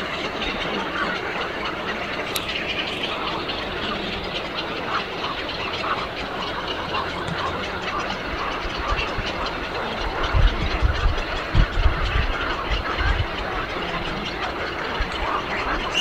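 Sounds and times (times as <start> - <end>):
many birds chattering: 0.0 - 16.0.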